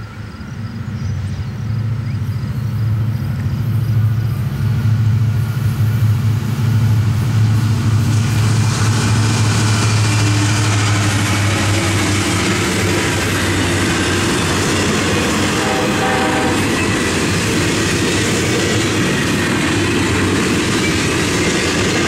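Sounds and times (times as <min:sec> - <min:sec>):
diesel locomotive engine drone: 0:00.0 - 0:22.0
wheels rushing on rail: 0:00.0 - 0:22.0.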